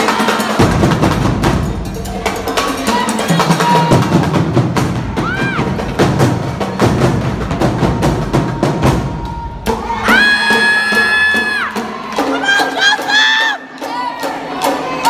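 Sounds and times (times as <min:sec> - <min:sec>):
marching drumline playing: 0:00.0 - 0:15.0.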